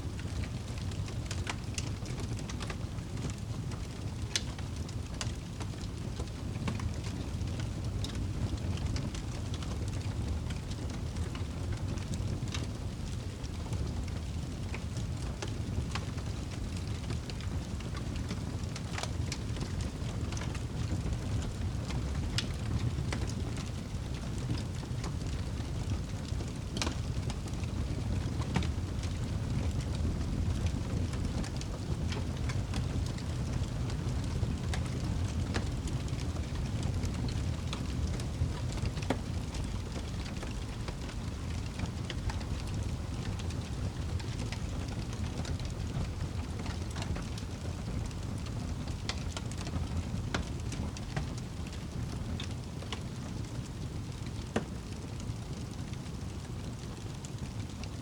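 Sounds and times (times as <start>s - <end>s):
fire rumbling in fireplace: 0.0s - 58.0s
logs crackling and popping: 0.0s - 58.0s.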